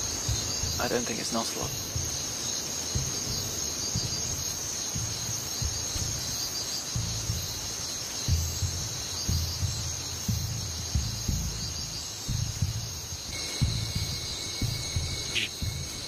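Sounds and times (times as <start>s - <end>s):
low deep thuds: 0.0s - 16.0s
night insects chirring: 0.0s - 16.0s.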